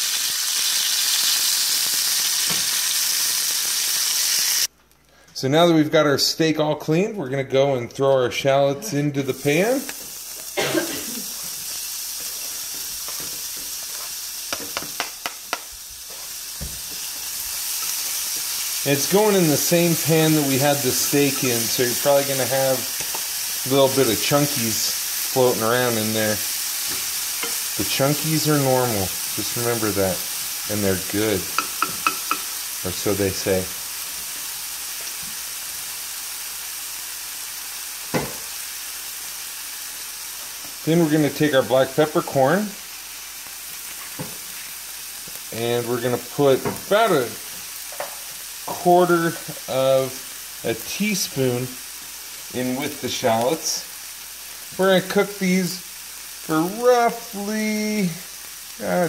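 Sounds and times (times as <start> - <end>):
shallots sizzling in oil: 0.0 - 4.7, 8.9 - 59.0.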